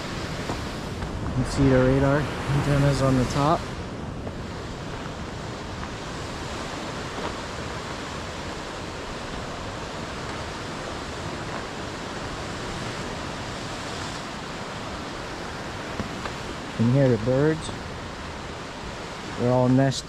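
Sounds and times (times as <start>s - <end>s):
ocean surf: 0.0s - 20.0s
wind: 0.0s - 20.0s.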